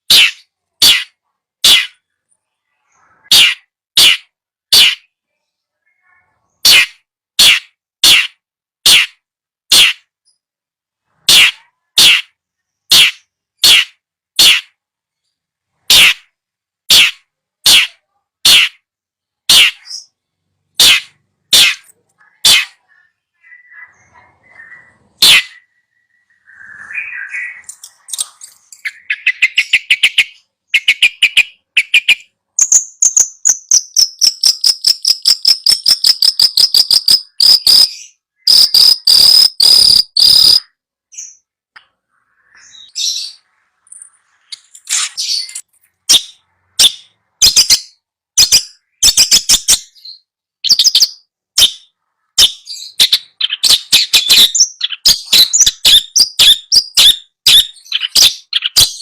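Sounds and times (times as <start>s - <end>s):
recorded birdsong: 0.0s - 59.0s.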